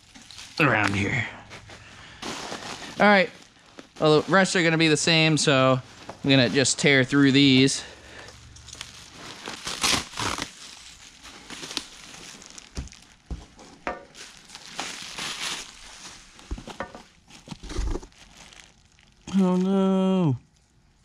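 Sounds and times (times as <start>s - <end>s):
bubble wrap and packing rustling: 0.0s - 21.0s.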